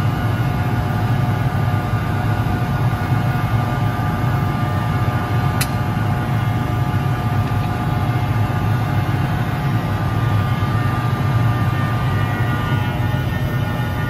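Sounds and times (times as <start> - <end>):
heavy engine rumbling and whining: 0.0 - 14.0.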